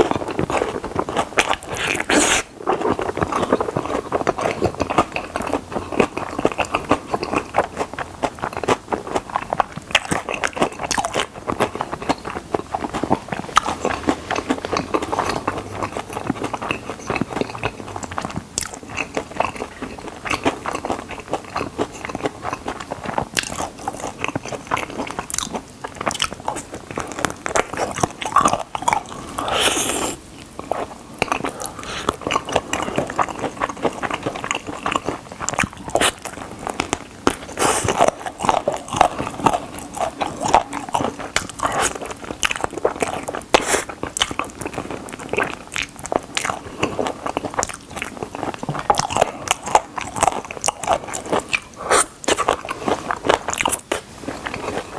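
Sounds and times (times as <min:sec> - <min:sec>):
crunchy chewing: 0:00.0 - 0:54.9.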